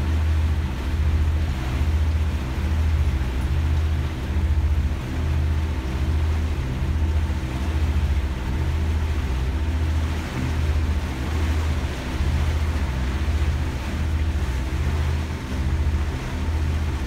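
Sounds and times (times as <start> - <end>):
boat engine droning: 0.0 - 17.0
wind: 0.0 - 17.0.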